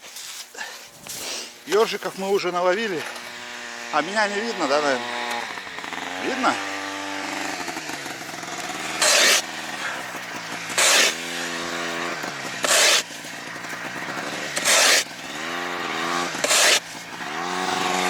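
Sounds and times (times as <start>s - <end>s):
ice chisel crunching ice: 0.0s - 18.0s
engine running: 1.0s - 18.0s.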